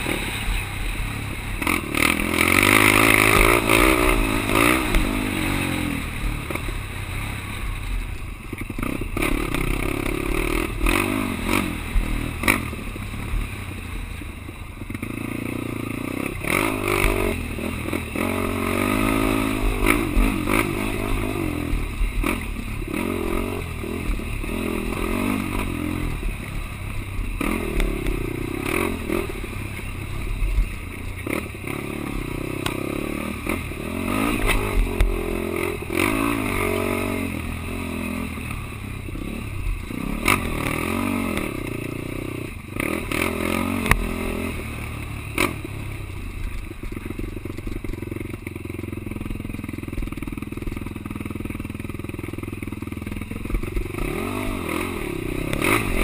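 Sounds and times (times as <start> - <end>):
quad engine revving: 0.0 - 7.6, 8.5 - 13.6, 14.8 - 56.0.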